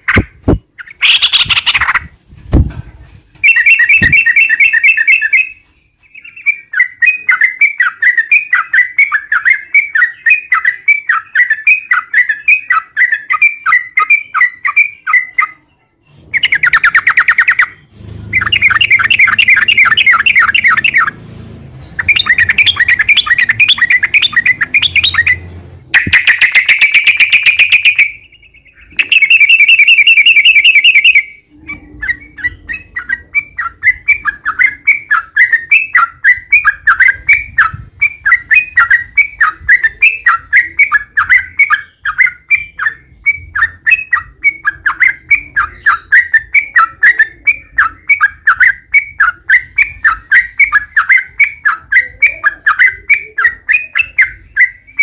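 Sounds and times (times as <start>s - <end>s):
bird trills: 0.0s - 2.1s, 3.4s - 15.7s, 16.3s - 21.2s, 21.9s - 55.0s
bird chirping: 0.0s - 2.7s, 3.4s - 55.0s.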